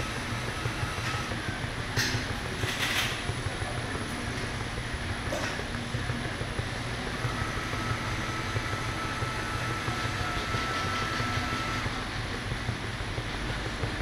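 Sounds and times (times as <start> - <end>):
machine mechanical rumble: 0.0 - 14.0
thin steady whine: 0.0 - 14.0.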